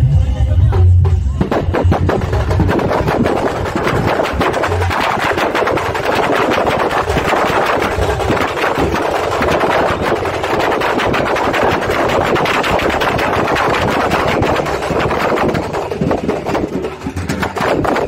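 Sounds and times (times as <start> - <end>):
fast drum band drumming: 0.7 - 18.0.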